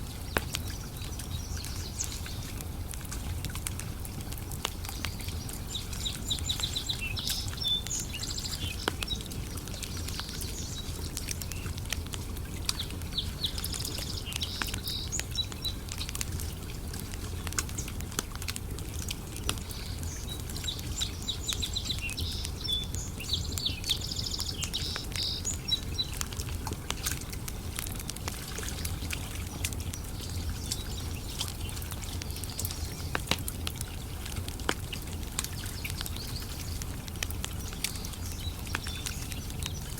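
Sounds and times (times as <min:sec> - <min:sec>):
campfire crackling and popping: 0:00.0 - 0:39.9
small birds chirping: 0:00.2 - 0:02.6, 0:04.2 - 0:18.3, 0:19.0 - 0:39.9.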